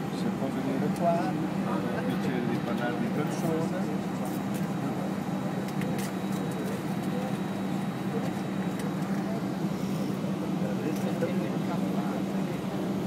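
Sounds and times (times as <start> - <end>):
airplane cabin hum: 0.0 - 13.0
faint voices murmuring: 0.1 - 13.0.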